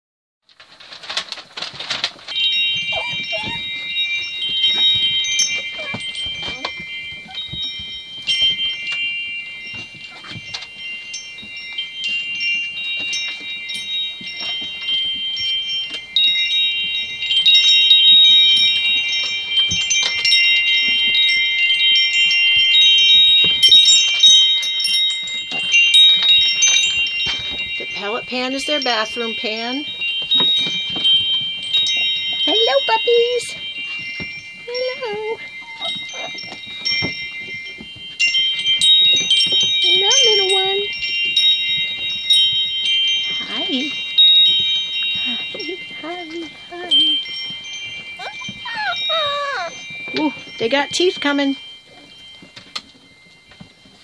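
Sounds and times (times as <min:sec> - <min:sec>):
chimes ringing: 0:02.2 - 0:54.0.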